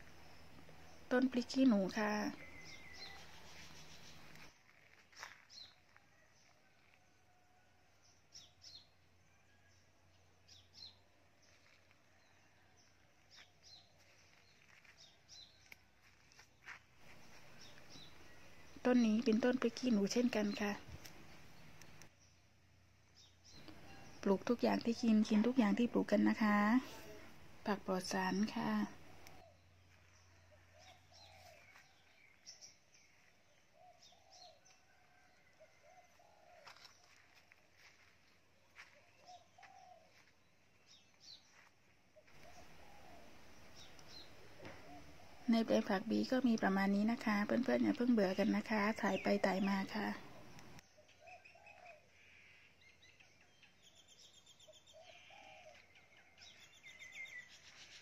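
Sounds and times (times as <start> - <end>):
small birds chirping: 0.0 - 7.0, 8.0 - 58.0.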